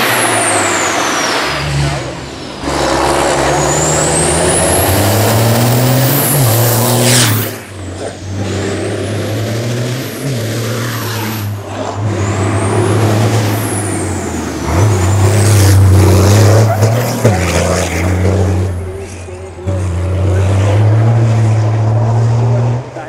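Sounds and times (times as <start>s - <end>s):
truck diesel engine under load: 0.0s - 23.0s.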